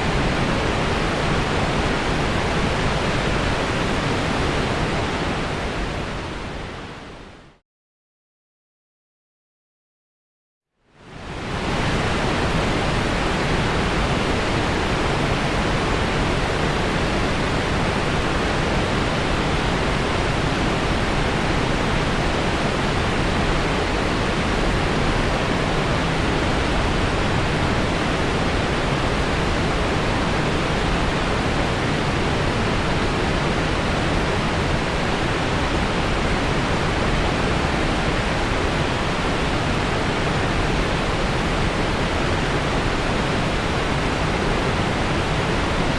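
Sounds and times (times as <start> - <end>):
waterfall roaring: 0.0 - 7.3, 11.0 - 45.9.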